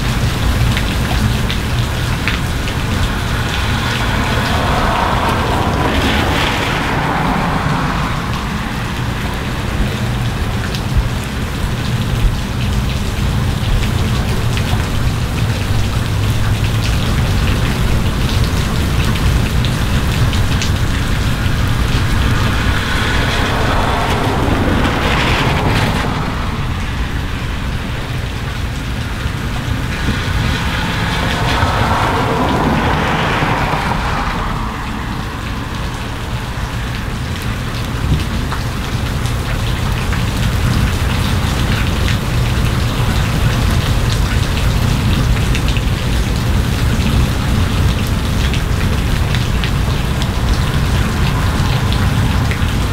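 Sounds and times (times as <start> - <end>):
car tyres hissing on wet road: 0.0 - 52.9
heavy rain on street: 0.0 - 52.9.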